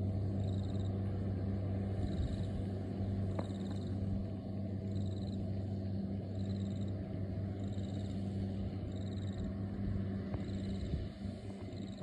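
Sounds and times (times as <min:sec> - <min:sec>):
tractor and baler humming: 0:00.0 - 0:12.0.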